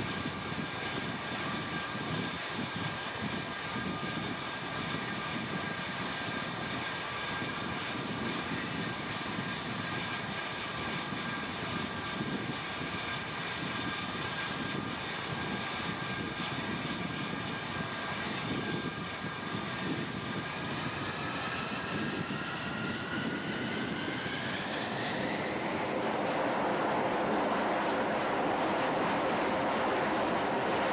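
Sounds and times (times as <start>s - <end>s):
jet engine whine and rumble: 0.0s - 30.9s.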